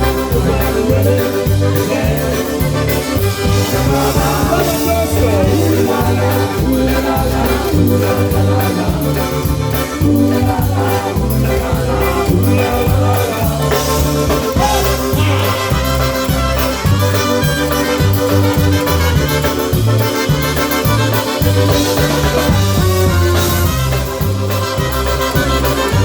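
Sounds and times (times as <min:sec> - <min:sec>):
live polka band playing: 0:00.0 - 0:26.0
repeating bass line: 0:00.0 - 0:26.0.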